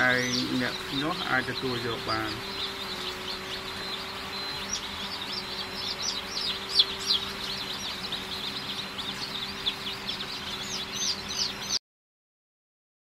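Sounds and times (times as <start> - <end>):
chicks peeping: 0.0 - 11.8
low hum: 0.0 - 11.8.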